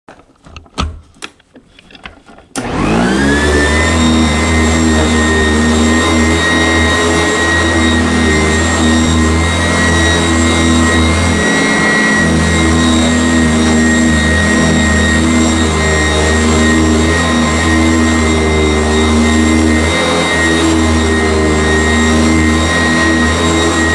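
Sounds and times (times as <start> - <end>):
vacuum cleaner motor whining: 2.5 - 23.9.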